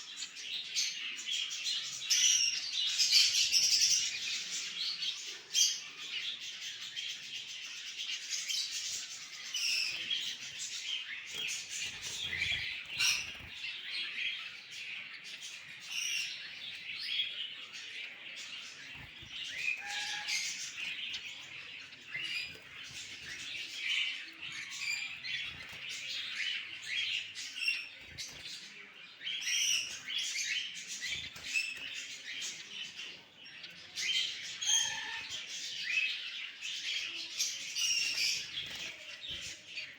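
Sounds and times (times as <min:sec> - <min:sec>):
cockatiels chirping and calling: 0:00.0 - 0:39.9.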